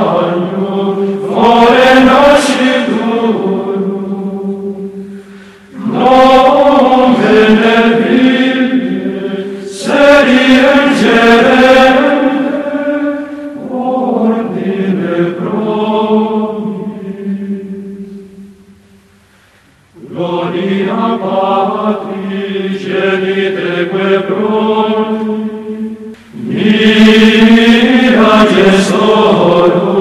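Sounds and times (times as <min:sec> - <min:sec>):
voices chanting long notes: 0:00.0 - 0:18.6, 0:20.0 - 0:30.0.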